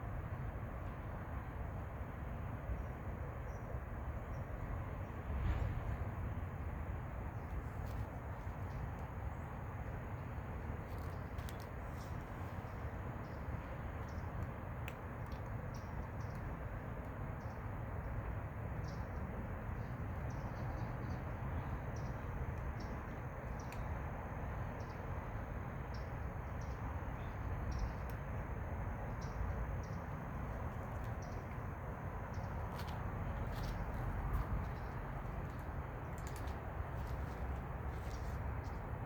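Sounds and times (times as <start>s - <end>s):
steady low rumble: 4.2s - 39.0s.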